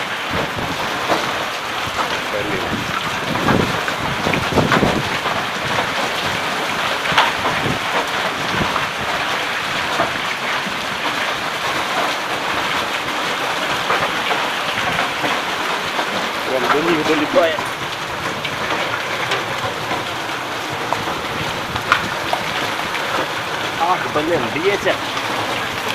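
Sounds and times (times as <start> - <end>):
hailstones striking: 0.0 - 25.9
heavy rain hissing: 0.0 - 25.9.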